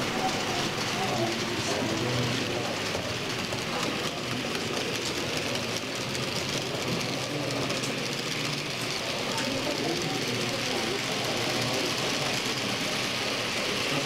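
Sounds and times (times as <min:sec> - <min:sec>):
model train rolling whir: 0:00.0 - 0:14.0.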